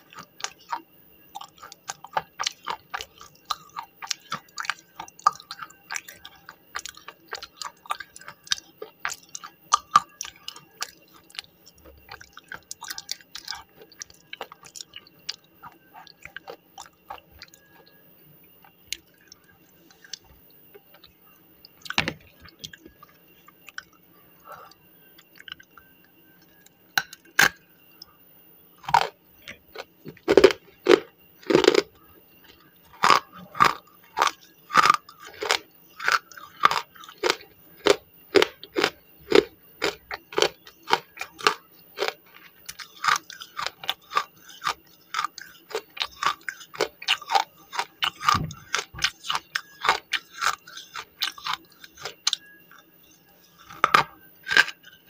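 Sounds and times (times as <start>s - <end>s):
crisp crunching chewing: 0.0s - 0.8s, 1.4s - 18.0s, 24.6s - 28.1s, 28.8s - 52.8s, 53.4s - 55.0s.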